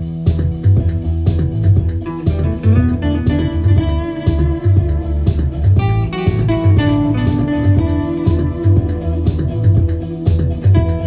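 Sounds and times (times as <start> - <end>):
bass guitar: 0.0 - 11.0
drums: 0.0 - 11.0
electric guitar lines: 0.0 - 11.0.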